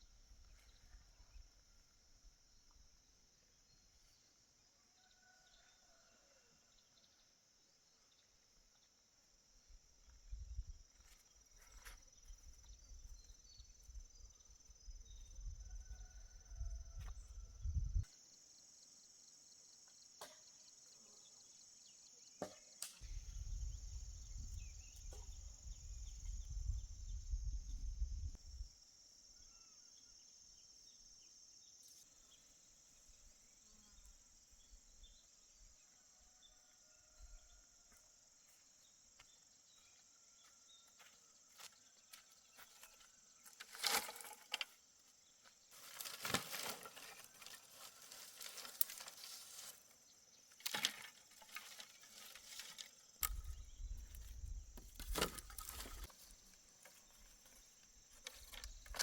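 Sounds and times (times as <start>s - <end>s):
insects chirring: 7.1s - 59.0s.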